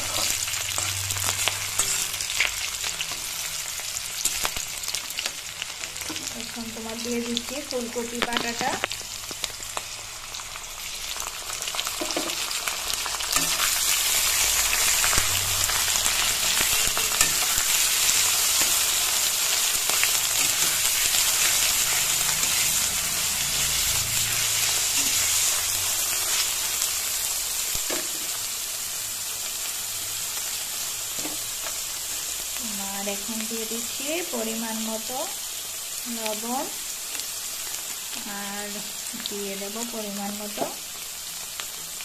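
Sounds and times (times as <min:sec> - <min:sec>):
paste sizzling in hot oil: 0:00.0 - 0:42.0.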